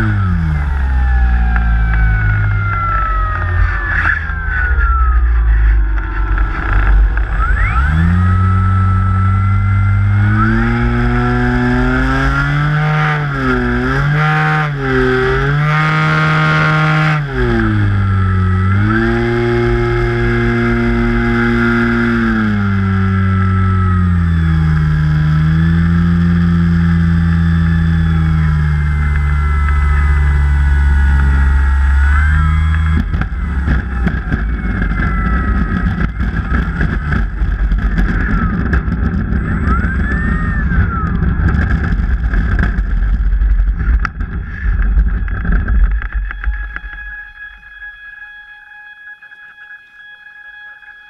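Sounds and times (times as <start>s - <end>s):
electric motor and propeller: 0.0s - 51.0s.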